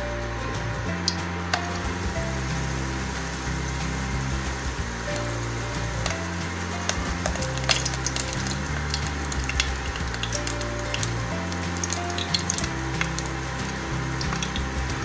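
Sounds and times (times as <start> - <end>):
flatbread sizzling in hot oil: 1.1 - 15.0.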